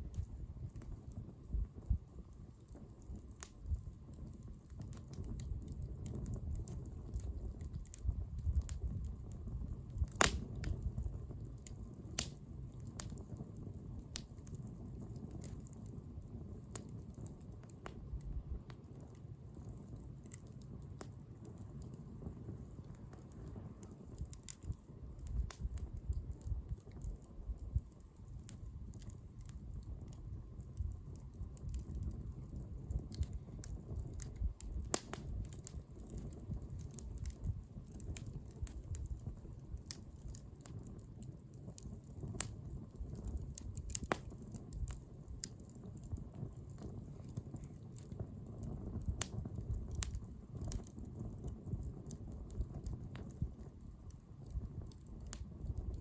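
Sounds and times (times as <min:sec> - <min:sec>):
fire low rumble: 0:00.0 - 0:56.0
wood crackling and popping: 0:00.0 - 0:56.0.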